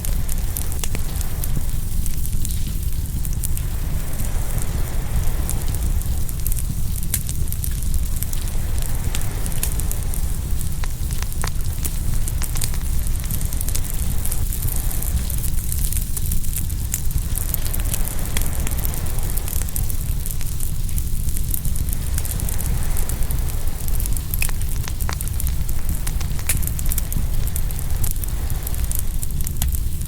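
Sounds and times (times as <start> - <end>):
bonfire crackling and popping: 0.0 - 30.0
low rumble: 0.0 - 30.0.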